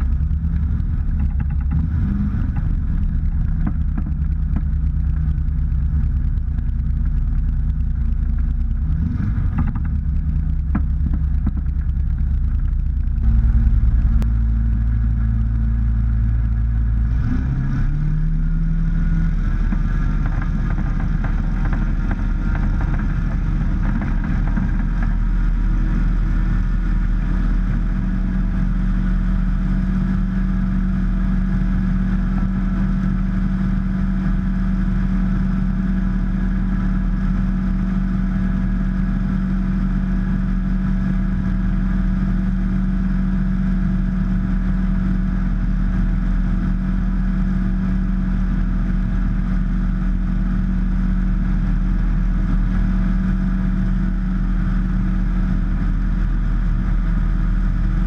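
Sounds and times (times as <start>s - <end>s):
aircraft engine running: 0.0s - 58.0s
propeller noise: 0.0s - 58.0s
wind noise: 0.0s - 58.0s.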